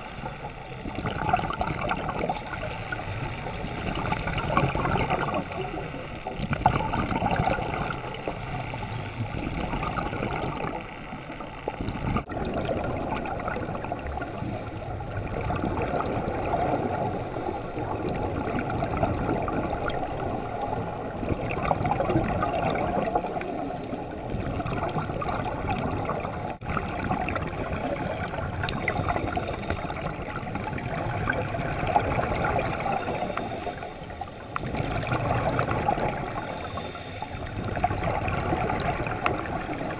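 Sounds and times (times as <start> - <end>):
underwater scuba bubbles: 0.0 - 39.9
water gurgling and rushing: 0.0 - 39.9.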